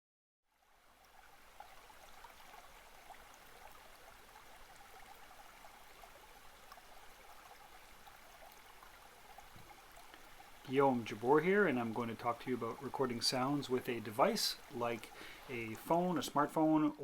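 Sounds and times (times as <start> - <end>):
faint steady hiss: 0.5 - 17.0.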